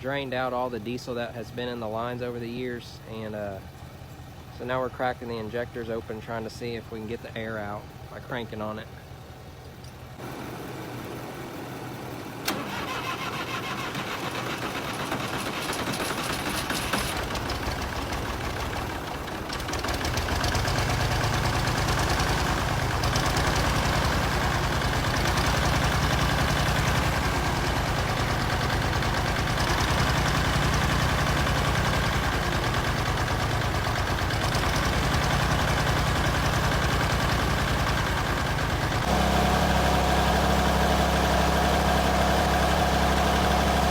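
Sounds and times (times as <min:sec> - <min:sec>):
diesel engine cranking on starter: 0:00.0 - 0:43.9
diesel engine running: 0:00.0 - 0:43.9.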